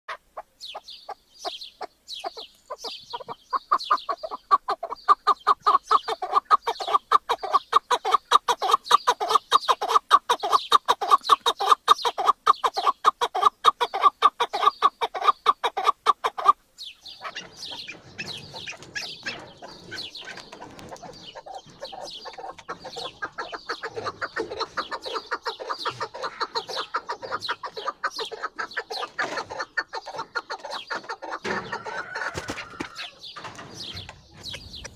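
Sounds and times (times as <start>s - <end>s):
partridge clucking calls: 0.1s - 34.9s.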